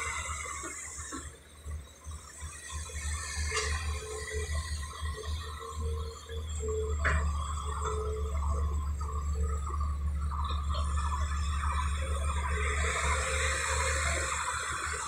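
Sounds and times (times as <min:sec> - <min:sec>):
diesel engine throbbing: 0:00.0 - 0:15.0.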